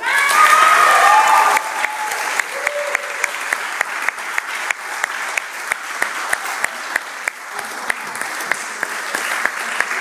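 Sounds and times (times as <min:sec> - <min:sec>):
people clapping: 0:00.0 - 0:10.0.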